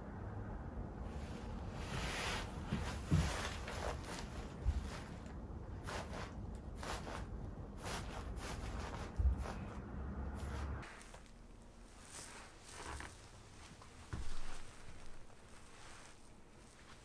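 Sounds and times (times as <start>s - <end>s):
clothing and table rustling: 1.1s - 9.8s, 10.4s - 17.0s.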